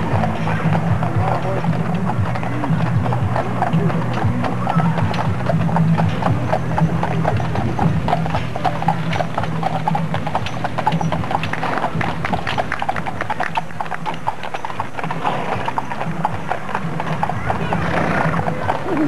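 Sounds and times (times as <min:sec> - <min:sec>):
horse hooves clip-clopping on asphalt: 0:00.0 - 0:19.0.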